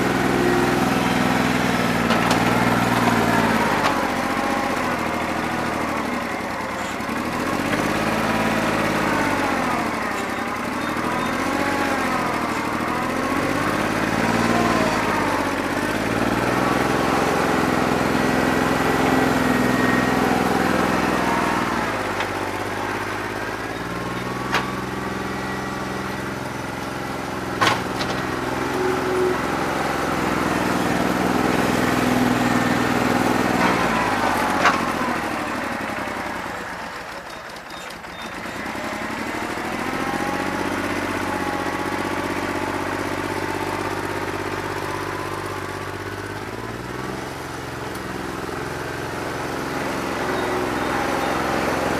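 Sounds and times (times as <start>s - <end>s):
diesel engine running unevenly: 0.0s - 51.9s.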